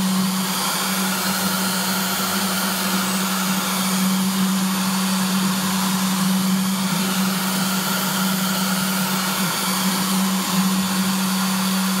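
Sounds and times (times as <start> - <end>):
router spindle motor humming: 0.0 - 12.0.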